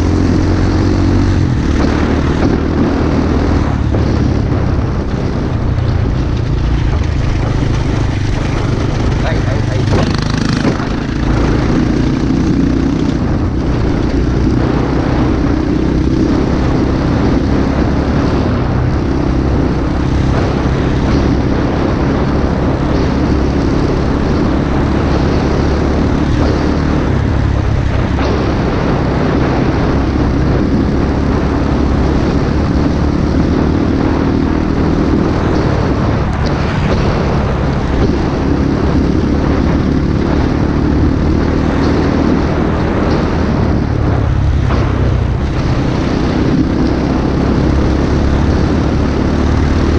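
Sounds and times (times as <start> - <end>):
pit bike engine droning: 0.0 - 49.9
riding wind rush: 0.0 - 49.9.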